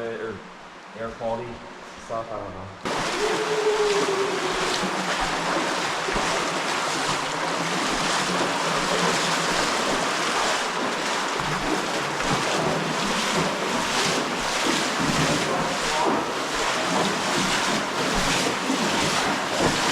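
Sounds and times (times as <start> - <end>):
cave stream rushing: 2.8 - 19.9.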